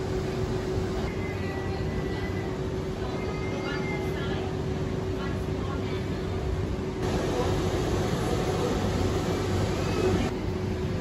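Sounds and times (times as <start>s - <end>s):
faint constant hum: 0.0s - 11.0s
store background noise: 0.0s - 11.0s.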